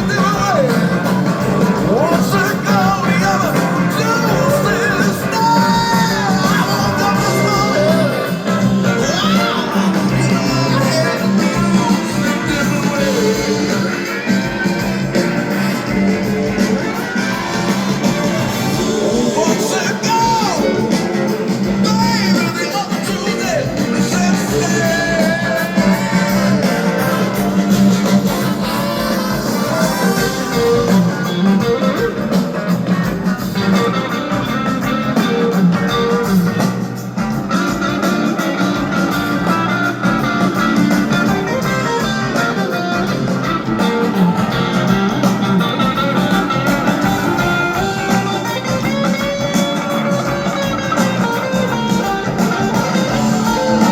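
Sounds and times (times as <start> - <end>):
bass and drums: 0.0 - 53.9
electric guitar lead: 0.0 - 53.9.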